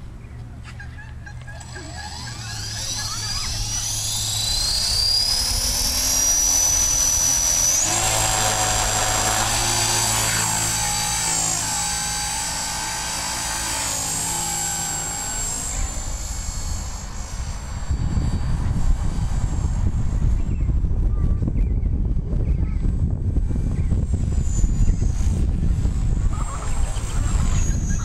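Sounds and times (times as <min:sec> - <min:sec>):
rc helicopter motor whining: 0:01.2 - 0:28.0
wind on microphone: 0:02.1 - 0:28.0.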